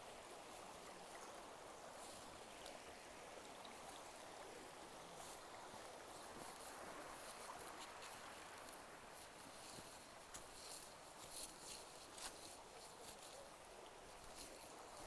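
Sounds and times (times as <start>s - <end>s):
creek flowing over rocks: 0.0s - 15.0s.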